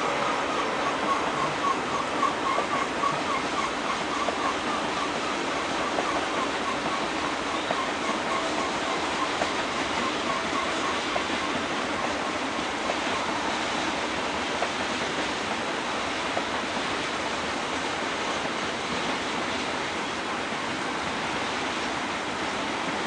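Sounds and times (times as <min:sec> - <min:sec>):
freight train rushing past: 0:00.0 - 0:23.0.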